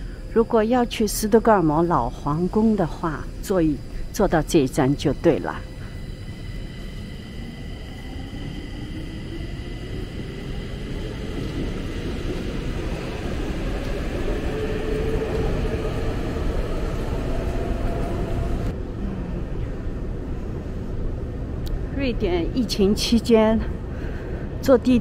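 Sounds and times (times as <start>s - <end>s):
metro train rumble: 0.0s - 25.0s.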